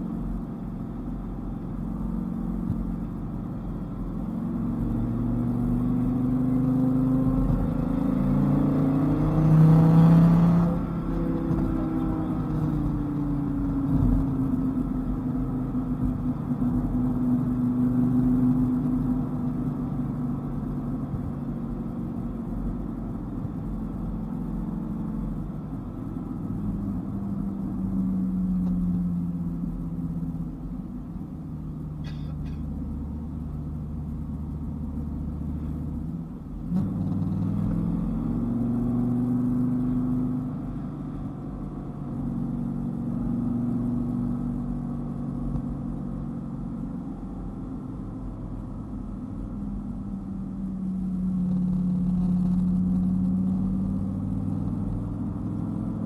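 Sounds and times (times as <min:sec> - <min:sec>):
road rumble: 0:00.0 - 0:56.0
car engine revving: 0:01.6 - 0:47.4.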